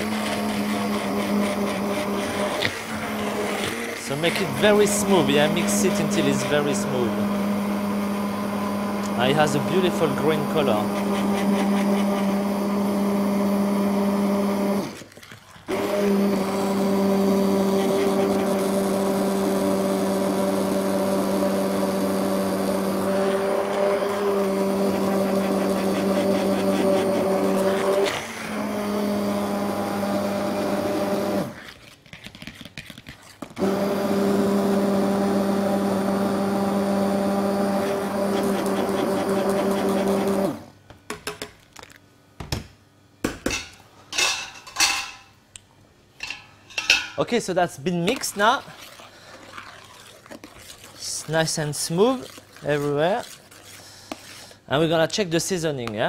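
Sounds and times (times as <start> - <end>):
stick blender motor humming: 0.0 - 31.7, 33.6 - 40.8, 48.1 - 54.6.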